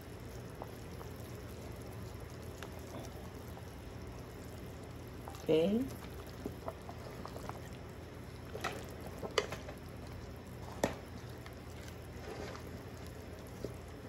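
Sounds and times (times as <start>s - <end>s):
low steady hum: 0.0s - 14.0s
liquid sloshing in pot: 0.5s - 14.0s.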